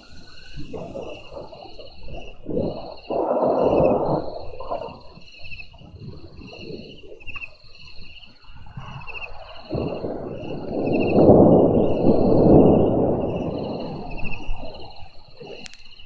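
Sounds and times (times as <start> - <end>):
thunder rumbling: 0.0 - 7.3, 8.0 - 16.0.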